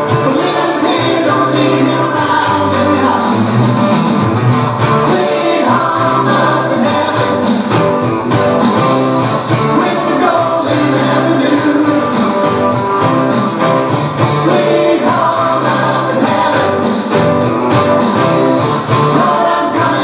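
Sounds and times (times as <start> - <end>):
song with singing and beat: 0.0 - 20.0.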